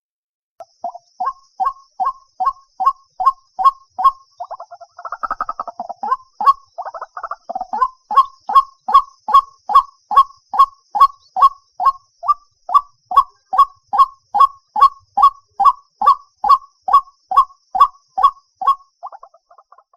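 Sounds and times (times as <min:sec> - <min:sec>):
waterhen chattering: 0:00.8 - 0:16.6, 0:17.3 - 0:19.9
waterhen short wak calls: 0:00.8 - 0:19.9.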